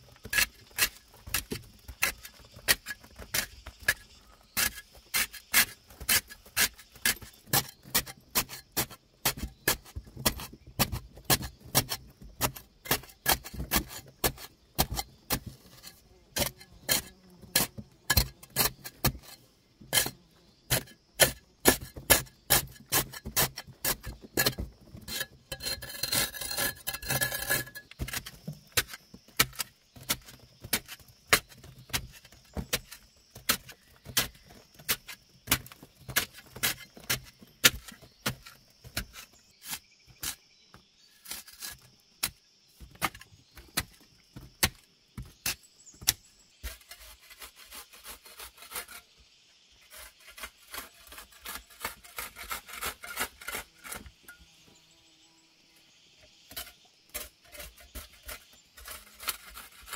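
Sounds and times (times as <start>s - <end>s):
hoe scraping into clay: 0.0s - 40.4s, 41.0s - 49.2s, 49.8s - 54.5s, 56.4s - 59.9s.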